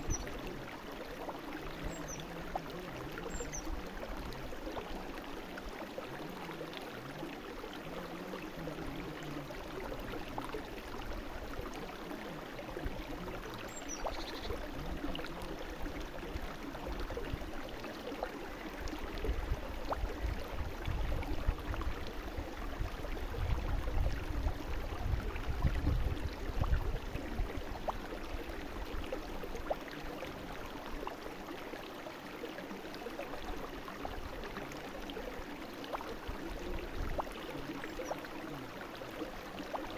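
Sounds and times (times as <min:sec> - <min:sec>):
brook running over stones: 0:00.0 - 0:39.9.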